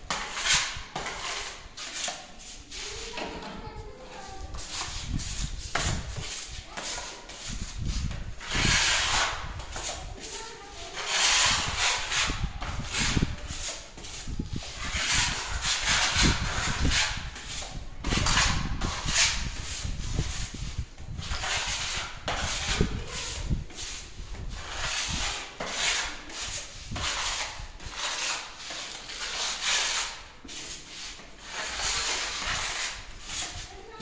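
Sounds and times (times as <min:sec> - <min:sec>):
sanding pad rasping on wall: 0:00.1 - 0:34.0.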